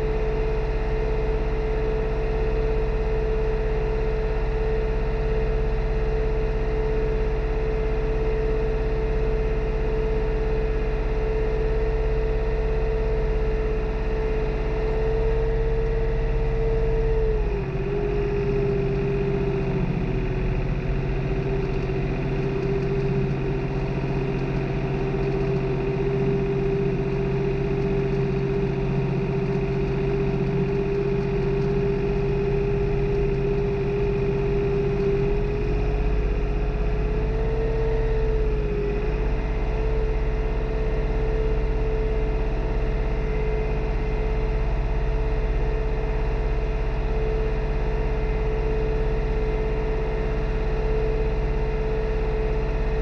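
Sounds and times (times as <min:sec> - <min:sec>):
strong steady whine: 0:00.0 - 0:53.0
tractor diesel engine under load: 0:00.0 - 0:53.0.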